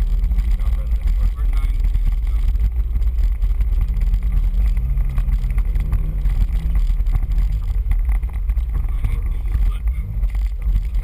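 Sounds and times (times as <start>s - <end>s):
road noise: 0.0s - 11.0s
vehicle engine rumbling: 0.0s - 11.0s
wind noise: 0.0s - 11.0s.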